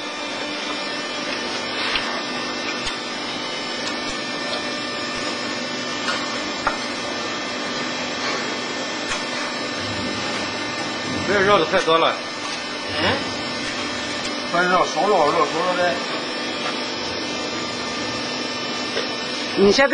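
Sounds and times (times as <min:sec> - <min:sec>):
steady machinery noise: 0:00.0 - 0:19.9.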